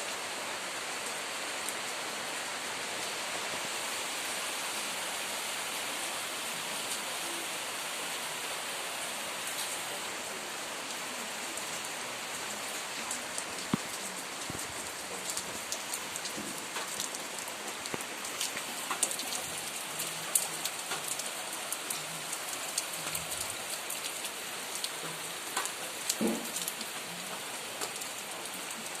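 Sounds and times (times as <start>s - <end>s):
rain hissing: 0.0s - 29.0s
raindrops ticking and splashing: 0.1s - 29.0s.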